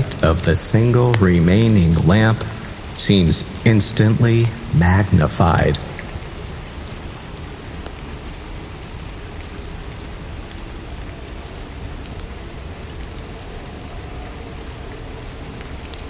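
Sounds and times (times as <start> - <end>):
rain hissing: 0.0 - 16.0
raindrops ticking: 0.0 - 16.0.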